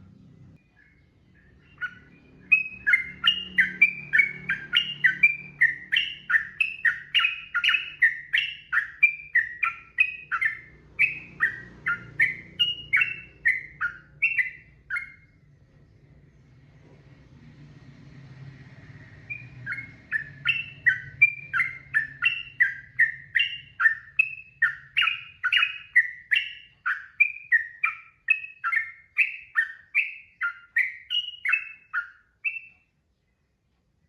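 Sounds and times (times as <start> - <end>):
bird whistling song: 0.0 - 15.7, 18.4 - 33.0
faint low hum: 0.0 - 29.0.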